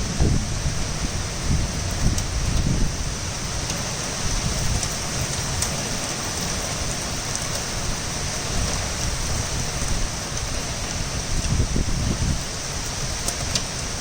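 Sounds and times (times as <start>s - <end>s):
torrential rain hissing: 0.0s - 14.0s
raindrop ticking close by: 1.2s - 11.6s, 12.2s - 14.0s.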